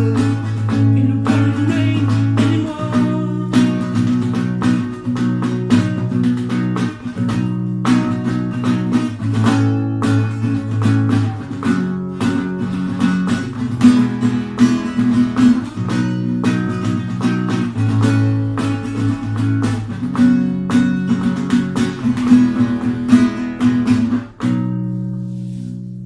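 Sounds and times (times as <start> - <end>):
guitar strumming chords: 0.0 - 26.0.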